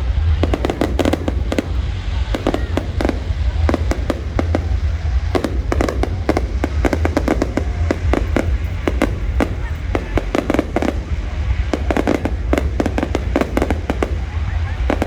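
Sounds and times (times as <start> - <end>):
deep rumble: 0.0 - 15.0
fireworks bangs and cracks: 0.0 - 15.0.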